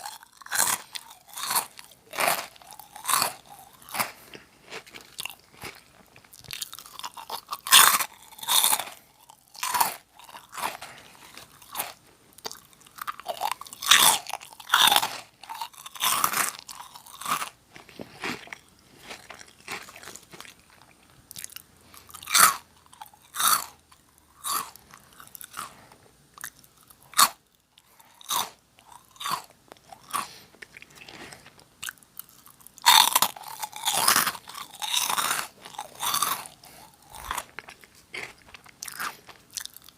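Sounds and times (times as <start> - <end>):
person crunching crisp snack: 0.0 - 25.8, 26.4 - 39.9.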